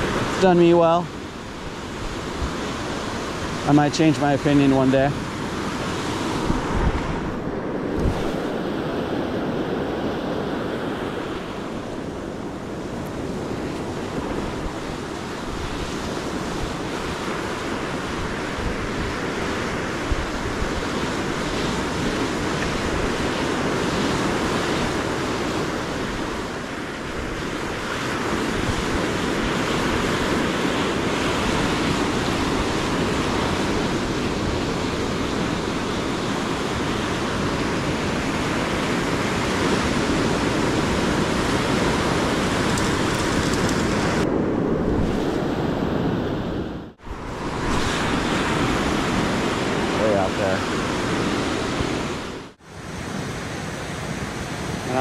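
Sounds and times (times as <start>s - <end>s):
wind buffeting microphone: 0.0s - 54.9s
ocean surf breaking on beach: 0.0s - 55.0s.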